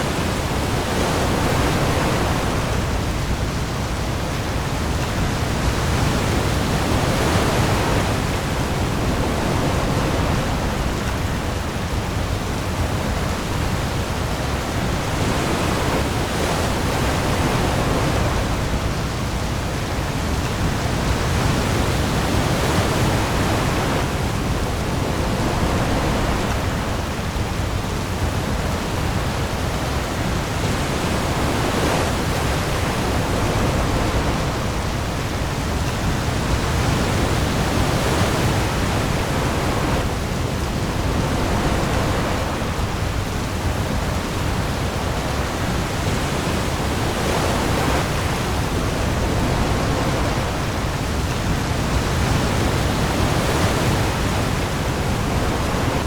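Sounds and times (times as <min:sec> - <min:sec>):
heavy rain on the sea: 0:00.0 - 0:56.0
waves: 0:00.0 - 0:56.0.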